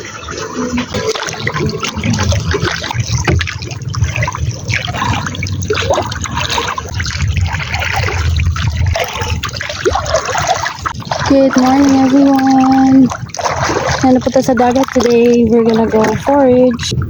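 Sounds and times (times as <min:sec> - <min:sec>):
low rumble: 0:00.0 - 0:17.0
sea water trickling and splashing: 0:00.0 - 0:17.0.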